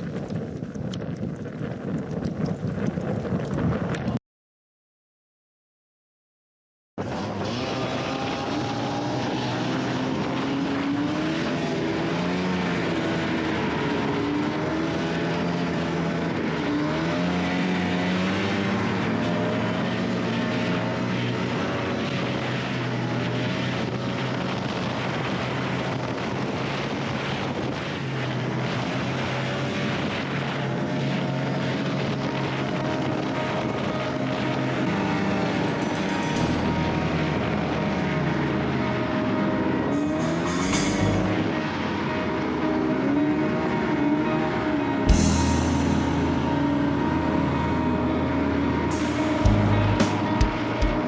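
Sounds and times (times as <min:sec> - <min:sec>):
track and wind rush: 0:00.0 - 0:04.2, 0:07.0 - 0:51.0
snowmobile engine running: 0:07.0 - 0:51.0.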